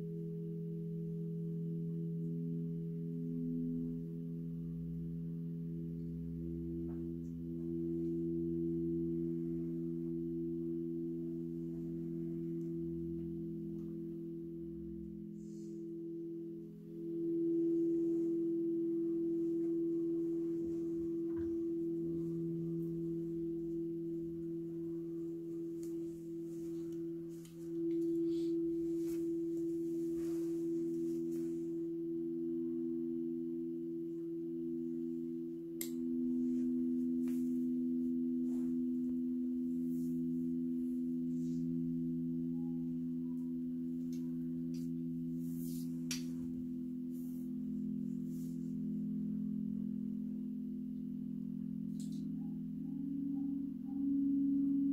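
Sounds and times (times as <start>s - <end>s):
crystal singing bowls humming: 0.0s - 54.9s.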